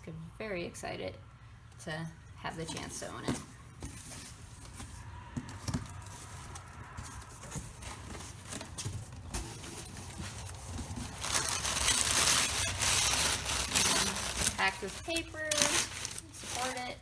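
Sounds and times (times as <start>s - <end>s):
cardboard box being opened: 2.6s - 16.9s
packing paper crinkling: 2.6s - 17.0s.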